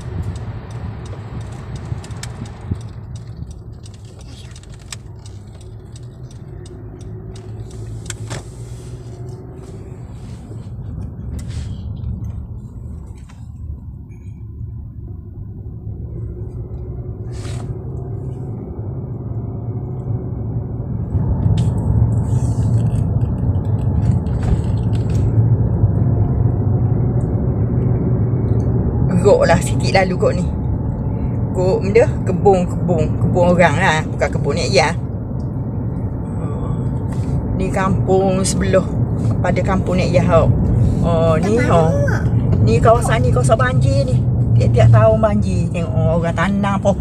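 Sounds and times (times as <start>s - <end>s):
car engine and tyre rumble: 0.0s - 47.0s.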